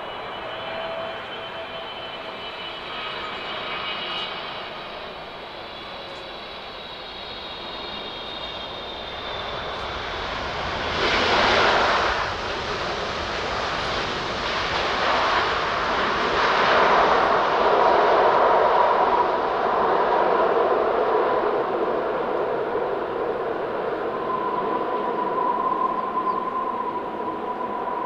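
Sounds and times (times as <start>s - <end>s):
jet engines roaring on landing: 0.0s - 28.0s
steady whine: 0.0s - 28.0s.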